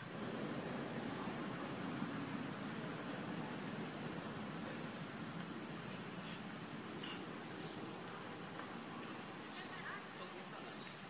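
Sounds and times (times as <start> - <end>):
high-pitched insect drone: 0.0 - 11.0
low background hiss: 0.0 - 11.0.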